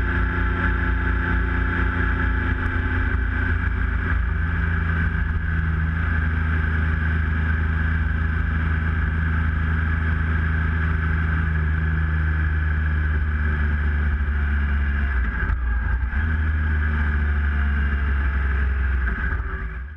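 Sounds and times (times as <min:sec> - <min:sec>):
motorcycle engine cruising: 0:00.0 - 0:19.9
wind and road noise: 0:00.0 - 0:19.9.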